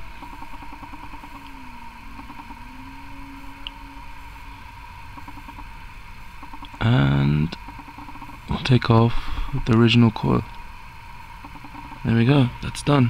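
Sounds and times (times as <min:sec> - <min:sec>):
faint drifting tone: 0:00.0 - 0:13.0
low background hum: 0:00.0 - 0:13.0.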